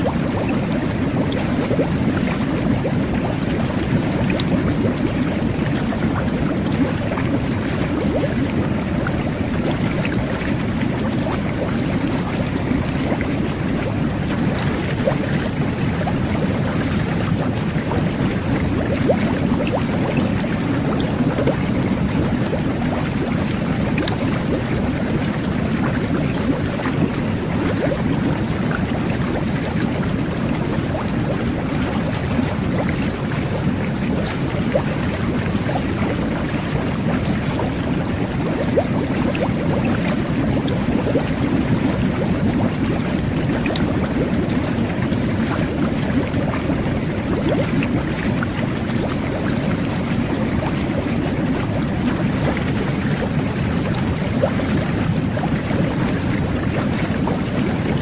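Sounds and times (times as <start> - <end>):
whirlpool bath jets bubbling: 0.0 - 58.0.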